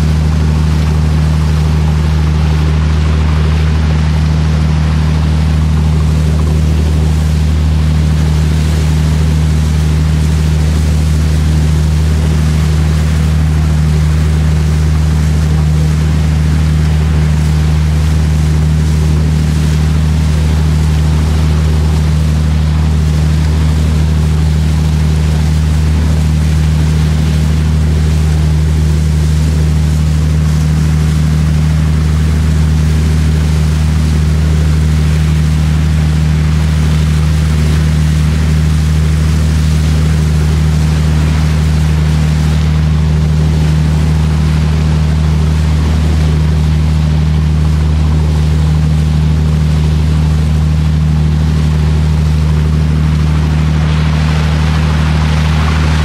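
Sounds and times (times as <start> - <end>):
boat engine droning: 0.0 - 56.0
rushing water hiss: 0.0 - 56.0.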